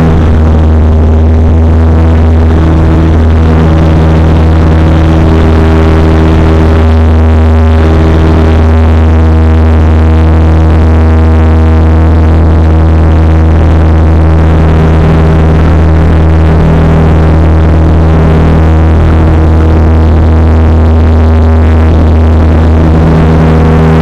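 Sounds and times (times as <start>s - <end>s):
turboprop cabin drone: 0.0s - 24.0s.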